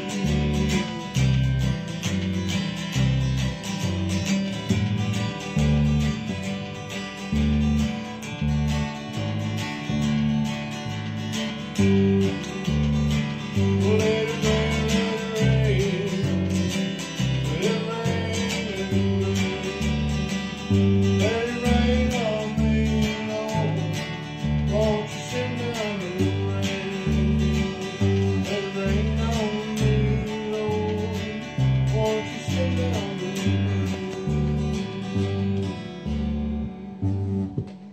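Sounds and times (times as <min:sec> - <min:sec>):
electric bass guitar: 0:00.0 - 0:37.9
strummed acoustic guitar: 0:00.0 - 0:37.9.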